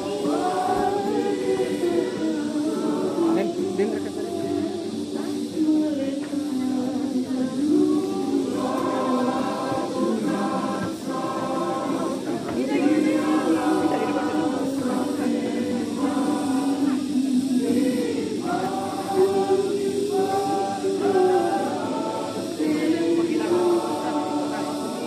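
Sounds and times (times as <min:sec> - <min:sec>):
group singing a hymn: 0:00.0 - 0:25.0.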